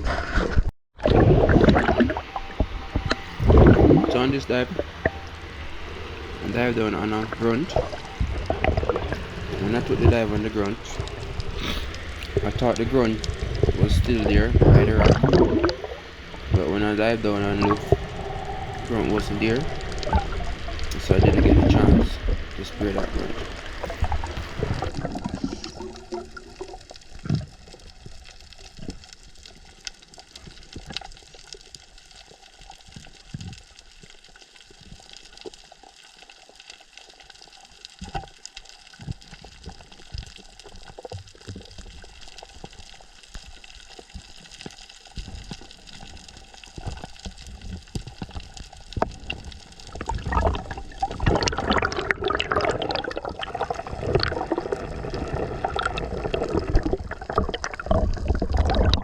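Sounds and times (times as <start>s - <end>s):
water splashing and bubbling: 0.0s - 59.0s
faint underwater hiss: 1.0s - 58.9s.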